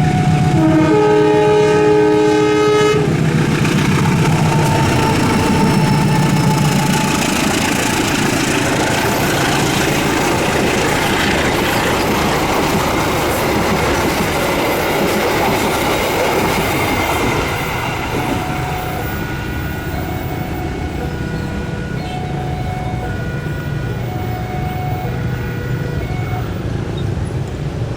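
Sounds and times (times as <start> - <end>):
train wheels clattering on rails: 0.0 - 24.7.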